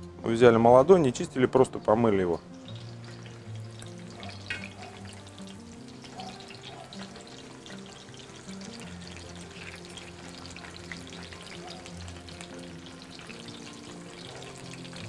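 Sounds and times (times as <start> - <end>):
background music: 0.0 - 15.0
potatoes sizzling in hot oil: 2.2 - 15.0.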